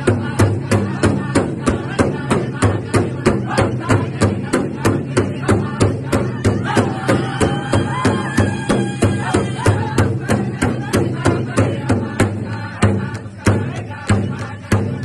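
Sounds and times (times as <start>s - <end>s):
large drum steady beat: 0.0s - 15.0s
men singing: 0.0s - 15.0s.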